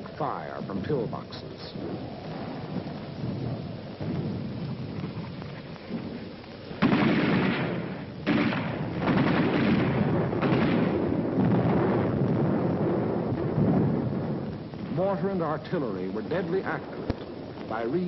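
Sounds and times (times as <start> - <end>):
heavy rumbling explosions: 0.0 - 18.0
steady film hiss: 0.0 - 18.0.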